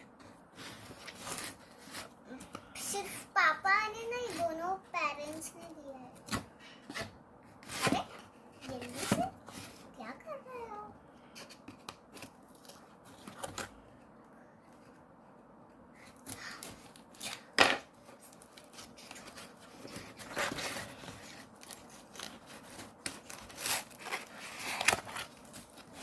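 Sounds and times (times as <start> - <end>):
packaging box rustling and scraping: 0.0 - 3.2, 4.0 - 10.0, 11.3 - 13.8, 16.0 - 26.0.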